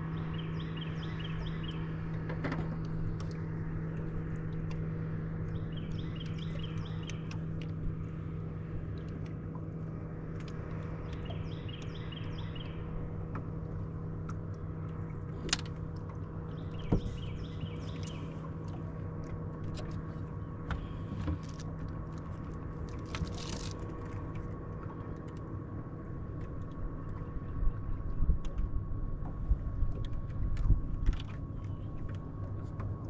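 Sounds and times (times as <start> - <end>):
boat motor hum: 0.0 - 33.0.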